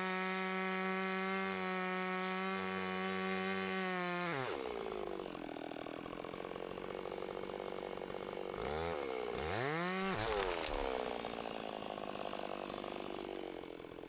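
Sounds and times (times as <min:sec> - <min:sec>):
chainsaw running and revving: 0:00.0 - 0:14.0.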